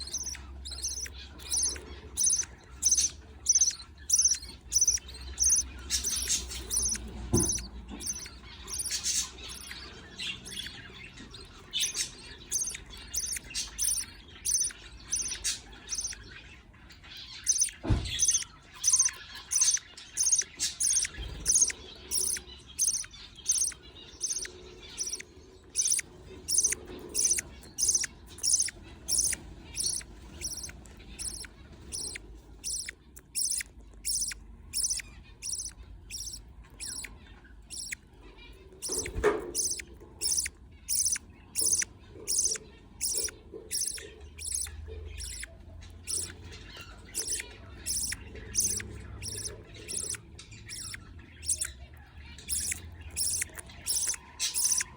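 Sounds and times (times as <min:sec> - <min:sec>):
bird chicks cheeping: 0:00.0 - 0:54.9.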